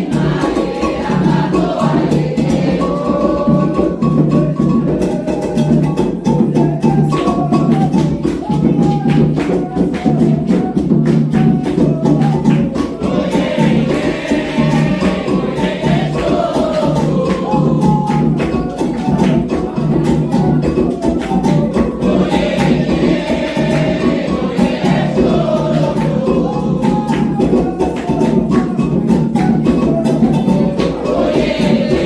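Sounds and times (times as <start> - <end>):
group singing a chant: 0.0 - 32.0
hand drums: 0.0 - 32.0.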